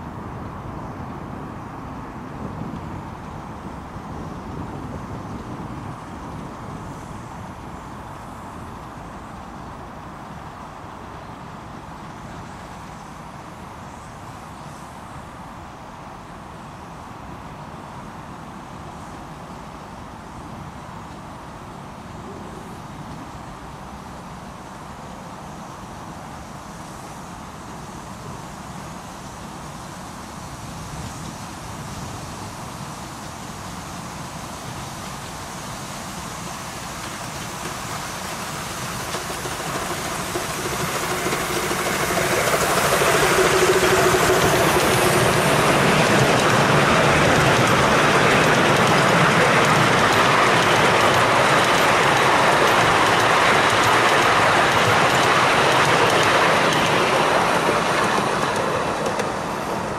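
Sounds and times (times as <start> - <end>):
coaches rolling on rails: 0.0 - 59.9
miniature steam locomotive running: 0.0 - 59.9.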